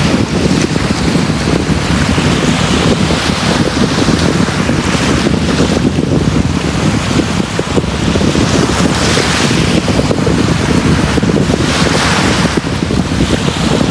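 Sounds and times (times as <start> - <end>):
sea surf washing on beach: 0.0 - 13.9
wind buffeting microphone: 0.0 - 13.9.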